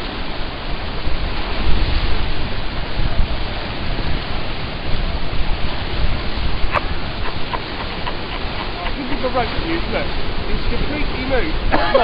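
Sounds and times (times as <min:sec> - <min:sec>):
rushing white water: 0:00.0 - 0:12.0.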